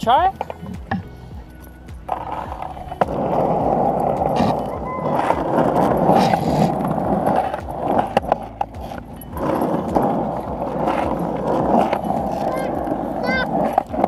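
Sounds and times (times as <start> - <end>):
skateboard wheels clicking on bumps: 0.0 - 14.0
skateboard wheels rolling on asphalt: 0.0 - 14.0.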